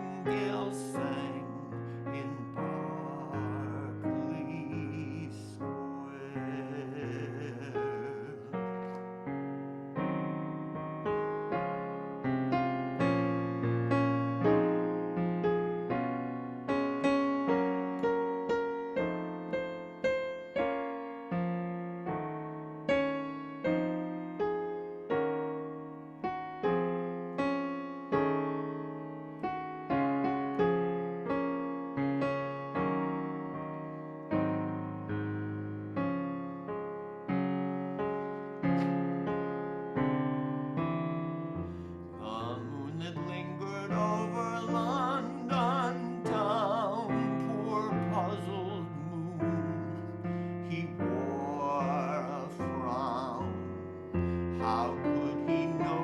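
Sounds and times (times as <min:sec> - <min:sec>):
electric piano chords: 0:00.0 - 0:56.0.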